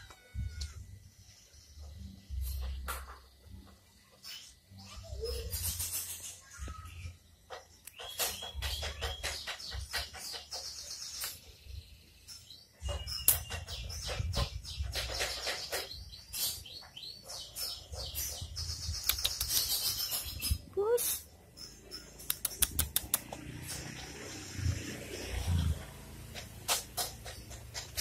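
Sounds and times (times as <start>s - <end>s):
small birds chirping: 0.4s - 28.0s.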